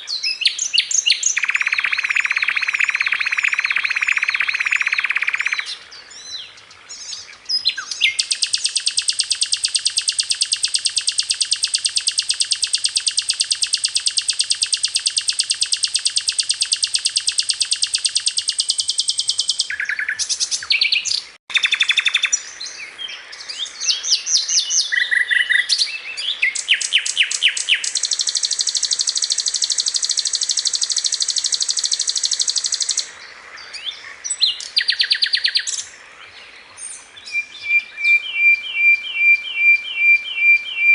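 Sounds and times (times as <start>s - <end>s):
flycatcher singing: 0.0s - 35.9s.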